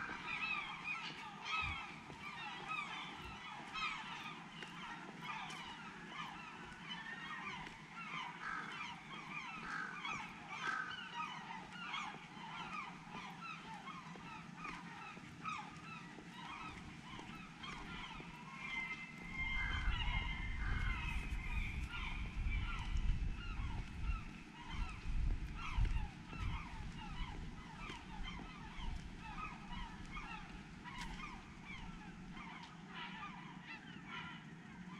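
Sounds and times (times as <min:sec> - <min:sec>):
flock of birds calling: 0:00.0 - 0:34.9.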